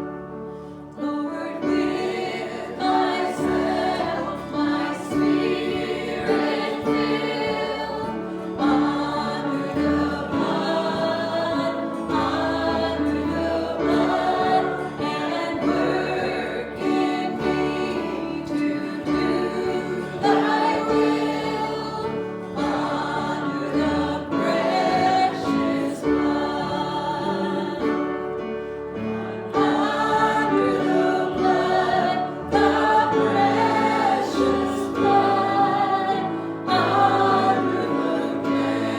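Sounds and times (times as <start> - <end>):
choir singing a gospel hymn: 0.0 - 38.9.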